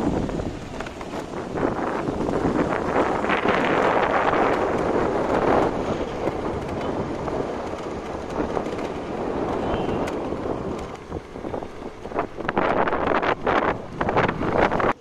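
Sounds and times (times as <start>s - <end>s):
vehicle road noise: 0.0s - 15.0s
wind rushing over microphone: 0.0s - 15.0s.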